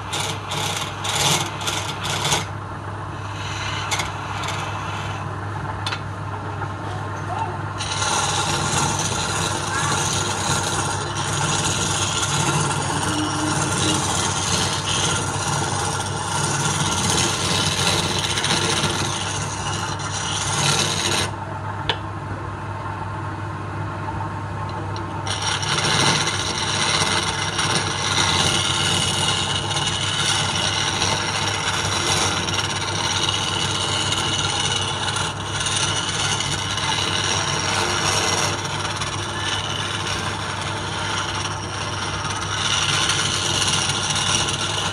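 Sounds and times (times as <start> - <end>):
scraper scraping spinning wood: 0.0 - 2.6, 3.2 - 5.3, 7.8 - 21.4, 25.2 - 44.9
wood lathe humming: 0.0 - 6.0, 7.6 - 21.4, 25.2 - 44.9.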